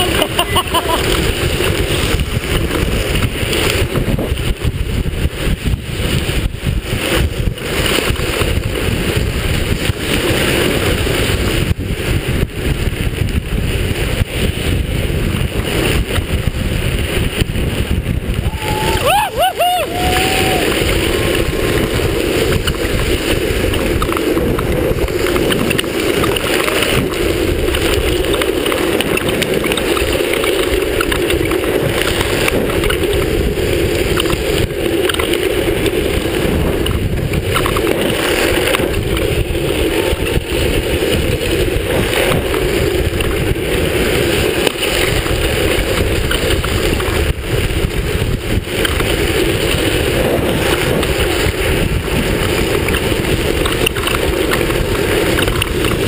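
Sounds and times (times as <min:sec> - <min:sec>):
hard wheels rolling on asphalt: 0:00.0 - 0:19.1, 0:19.9 - 0:56.0
wind buffeting microphone: 0:00.0 - 0:56.0.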